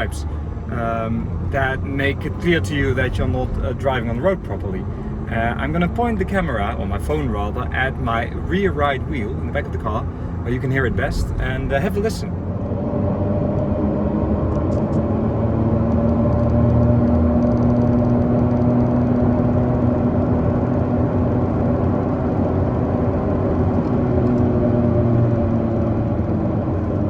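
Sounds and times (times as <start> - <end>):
tyre and road noise: 0.0 - 27.0.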